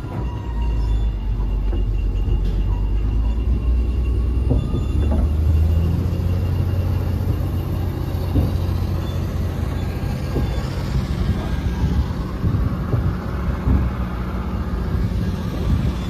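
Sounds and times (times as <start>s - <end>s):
bulldozer diesel engine drone: 0.0s - 16.0s
rumble of tracks: 0.0s - 16.0s.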